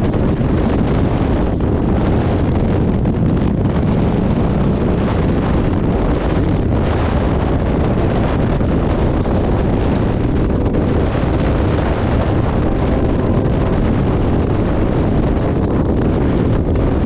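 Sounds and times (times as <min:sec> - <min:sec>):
motorcycle running: 0:00.0 - 0:17.0
road noise: 0:00.0 - 0:17.0
wind rushing over microphone: 0:00.0 - 0:17.0.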